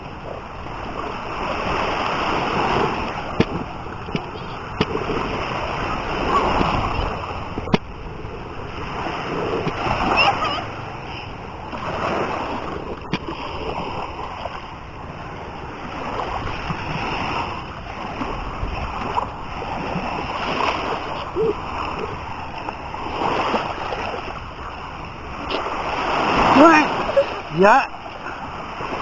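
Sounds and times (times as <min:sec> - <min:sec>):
surf washing in: 0:00.0 - 0:29.0.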